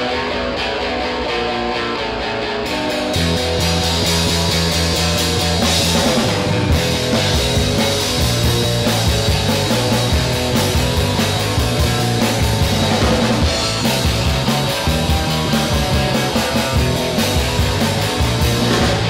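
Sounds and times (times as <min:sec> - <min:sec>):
rock music with bass line: 0:00.0 - 0:19.0.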